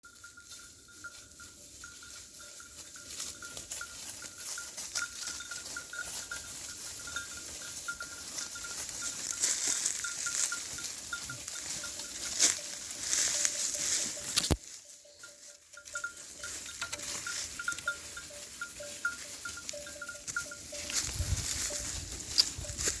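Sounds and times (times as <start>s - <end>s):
sheep flock clinking and pattering: 0.0s - 23.0s.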